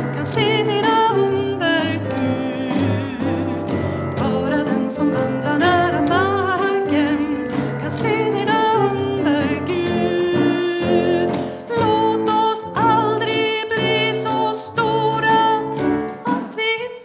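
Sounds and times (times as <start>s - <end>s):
digital piano chords: 0.0s - 16.7s
woman singing with vibrato: 0.0s - 17.0s.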